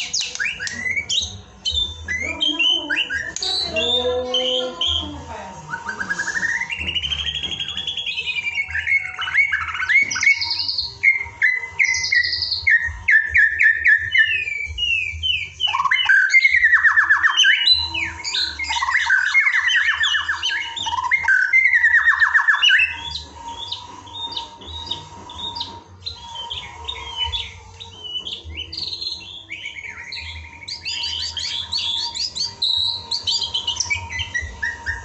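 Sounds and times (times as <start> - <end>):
bird singing whistled trills: 0.0 - 35.0.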